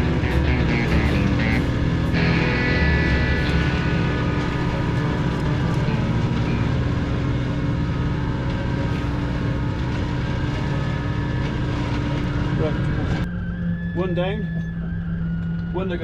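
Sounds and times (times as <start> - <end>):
flail mower cutting grass: 0.0 - 13.2
tractor engine running: 0.0 - 13.8.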